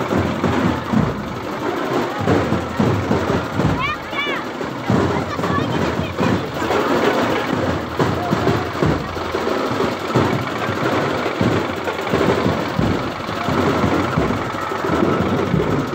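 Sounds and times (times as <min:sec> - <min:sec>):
crowd shouting: 0:00.0 - 0:15.9
drums beaten in rapid rhythm: 0:00.0 - 0:15.9.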